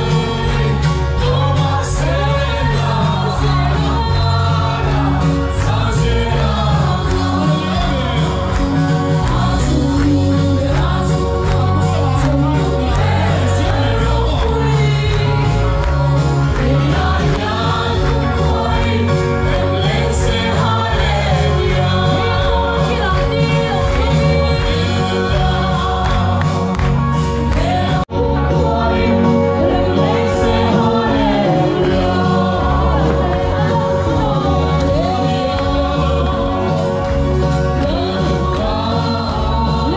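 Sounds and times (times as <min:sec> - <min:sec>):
group singing a hymn: 0:00.0 - 0:39.9
loud accompaniment with heavy bass: 0:00.0 - 0:39.9.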